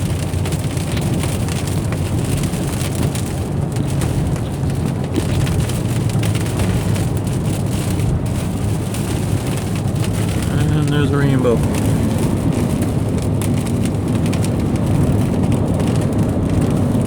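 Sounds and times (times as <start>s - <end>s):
rain pattering on car: 0.0s - 17.0s
road and engine noise: 0.0s - 17.0s.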